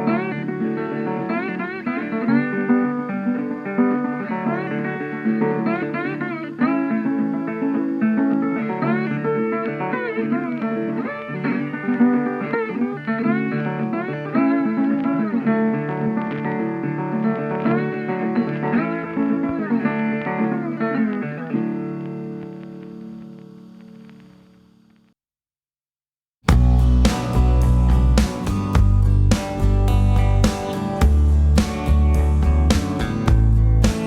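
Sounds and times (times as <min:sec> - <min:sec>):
bluesy guitar riff: 0:00.0 - 0:24.2, 0:26.5 - 0:34.0.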